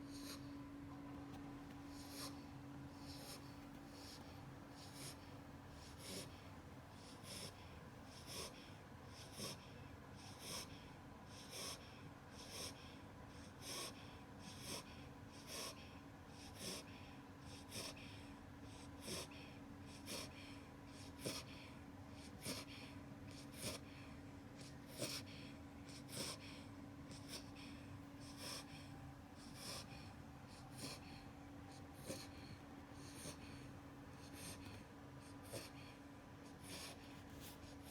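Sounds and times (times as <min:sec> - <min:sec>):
puppy snoring: 0:00.0 - 0:37.9.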